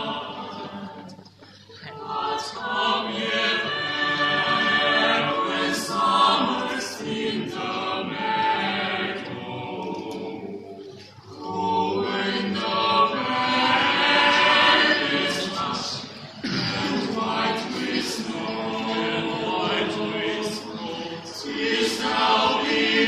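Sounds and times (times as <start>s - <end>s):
a cappella group singing: 0.0s - 23.0s.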